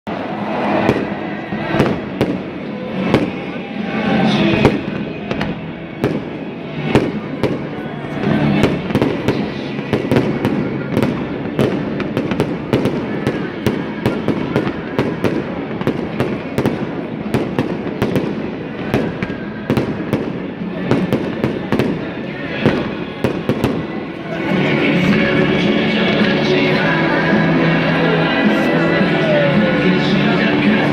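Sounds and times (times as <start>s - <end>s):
fireworks bangs and crackles: 0.1s - 30.9s.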